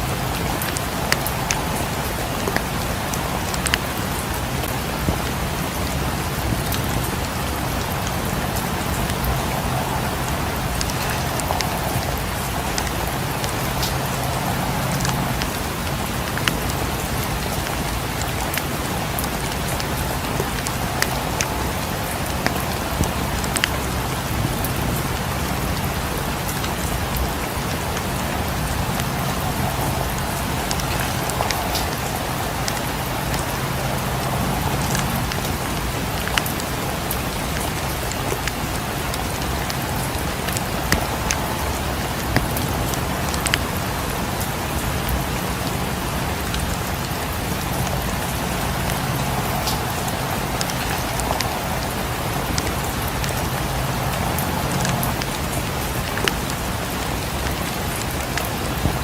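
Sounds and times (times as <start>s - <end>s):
rain against windows: 0.0s - 59.0s
wood fire crackling: 0.0s - 59.0s.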